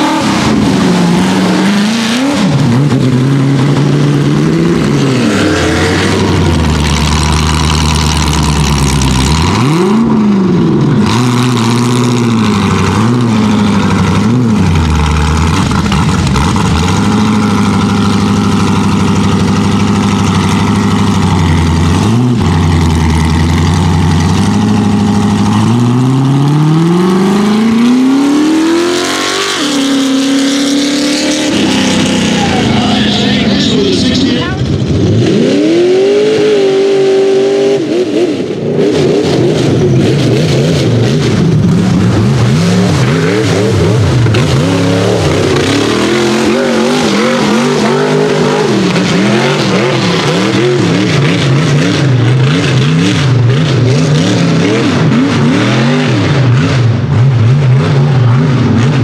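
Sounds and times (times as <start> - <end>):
engine revving hard: 0.0 - 19.4, 21.2 - 59.0.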